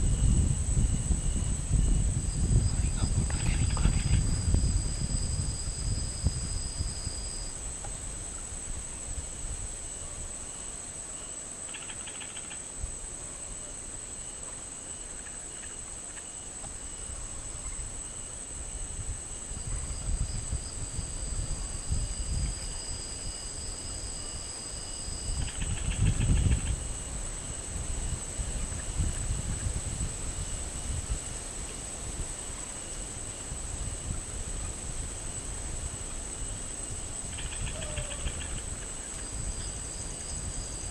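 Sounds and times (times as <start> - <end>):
high-pitched insect trill: 0.0 - 40.9
lower insect trill: 0.0 - 40.9
rapid insect chirping: 0.0 - 40.9.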